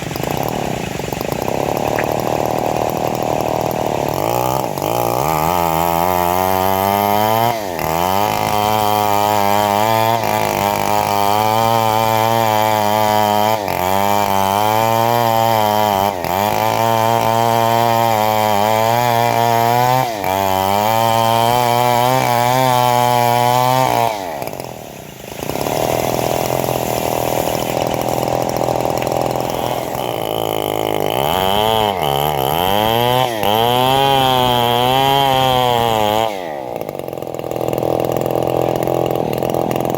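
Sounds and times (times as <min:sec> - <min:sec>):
bandsaw motor sawing log: 0:00.0 - 0:39.9.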